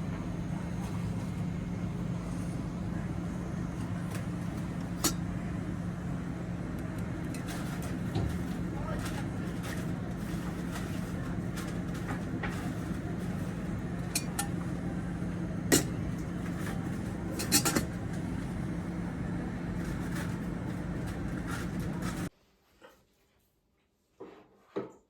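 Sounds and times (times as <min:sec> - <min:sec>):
cafe room ambience hum: 0:00.0 - 0:25.0.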